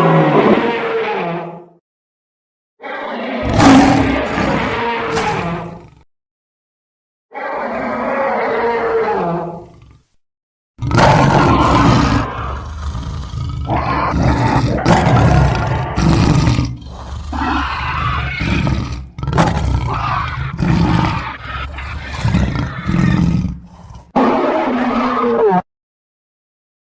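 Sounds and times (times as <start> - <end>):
dinosaur roar: 0.0 - 1.8, 2.8 - 6.0, 7.3 - 10.2, 10.8 - 25.6.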